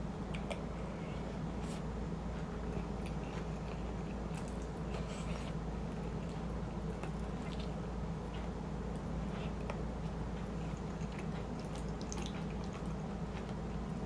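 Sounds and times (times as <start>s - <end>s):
steady low hum: 0.0s - 14.0s
chewing food: 0.3s - 14.0s.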